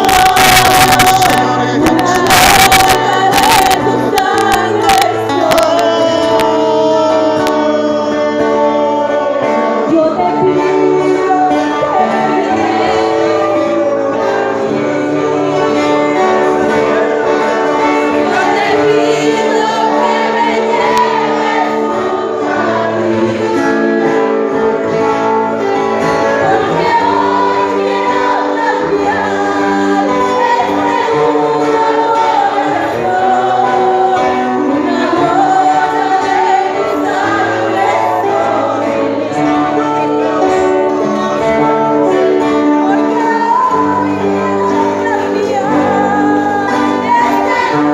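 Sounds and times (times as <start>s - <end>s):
person singing: 0.0s - 47.9s.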